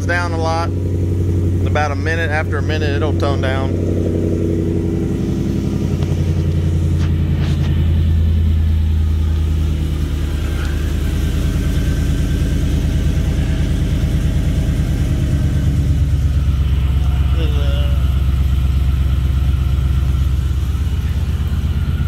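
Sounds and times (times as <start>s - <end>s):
truck engine exhaust rumble idling: 0.0s - 22.0s.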